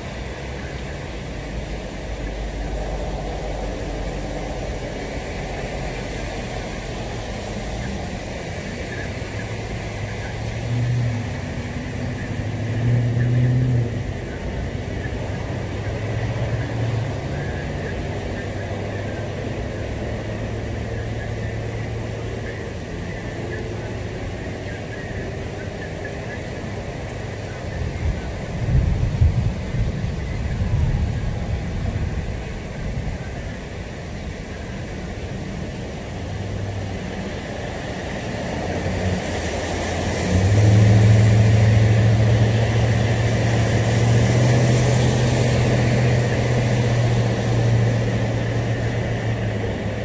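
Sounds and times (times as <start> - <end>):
cars passing on wet road: 0.0 - 50.0
heavy rain: 0.0 - 50.0
wind: 0.0 - 50.0.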